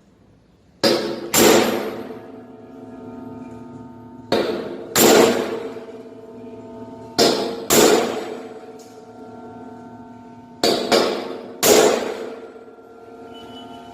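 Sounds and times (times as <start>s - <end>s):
hammer striking steel: 0.8s - 13.9s
metallic ringing: 0.8s - 13.9s.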